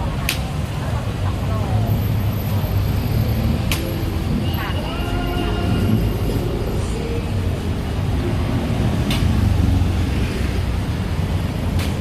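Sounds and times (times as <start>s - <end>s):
rumble of traffic engines: 0.0s - 12.0s.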